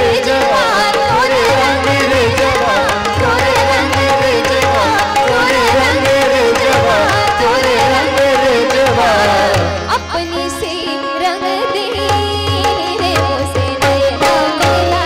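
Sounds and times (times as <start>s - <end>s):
harmonium: 0.0s - 15.0s
tabla rhythm: 0.0s - 15.0s
woman singing devotional song: 0.0s - 15.0s.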